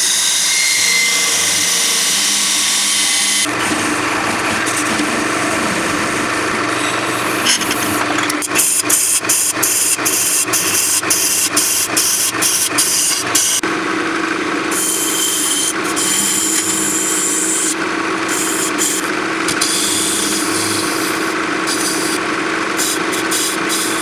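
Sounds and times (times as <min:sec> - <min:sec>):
chisel cutting wood on lathe: 0:00.0 - 0:13.6, 0:14.7 - 0:24.0
lathe motor humming: 0:00.0 - 0:24.0.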